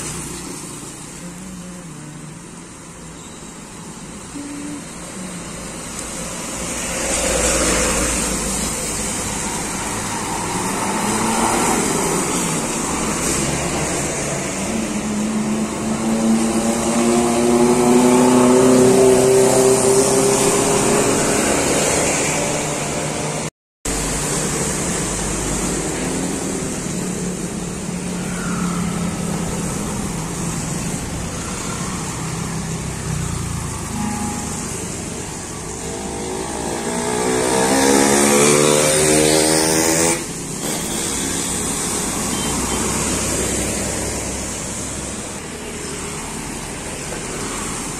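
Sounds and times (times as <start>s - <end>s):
cars passing: 0.0s - 47.9s
tyres hissing on wet road: 0.0s - 47.9s
motorcycles passing: 4.3s - 47.9s.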